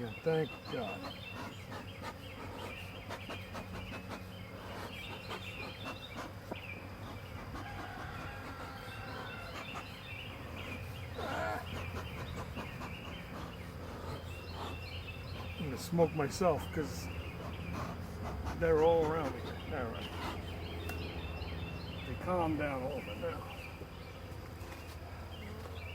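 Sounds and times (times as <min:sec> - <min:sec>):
birds calling: 0:00.0 - 0:25.9
honeybees buzzing: 0:00.0 - 0:25.9.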